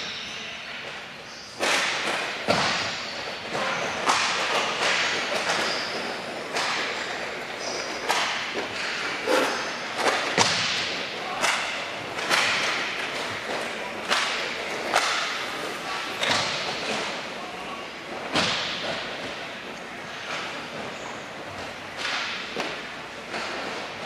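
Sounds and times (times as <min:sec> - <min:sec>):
hockey sticks and puck clacking: 0:01.6 - 0:24.0.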